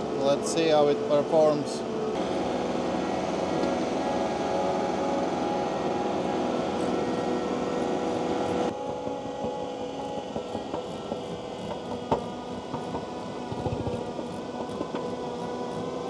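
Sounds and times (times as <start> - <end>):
machine drone with whine: 0.0 - 16.0.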